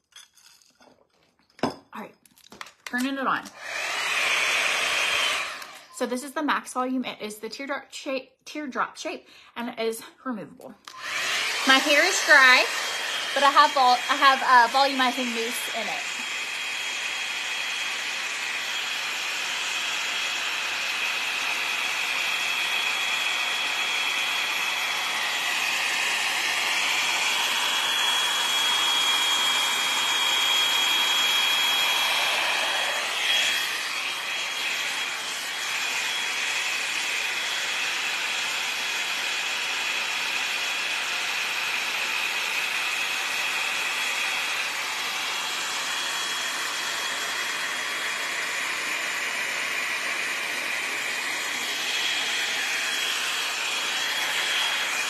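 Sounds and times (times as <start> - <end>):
hot-air brush blowing air: 3.5 - 6.0, 10.8 - 55.0.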